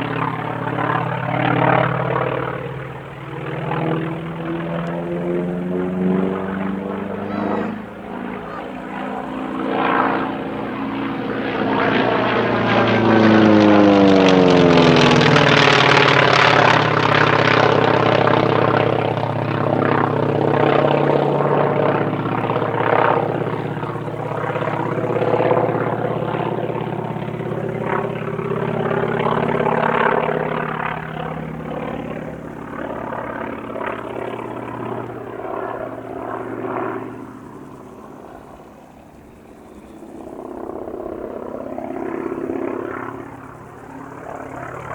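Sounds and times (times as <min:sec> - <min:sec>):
propeller plane engine passing: 0:00.0 - 0:44.9.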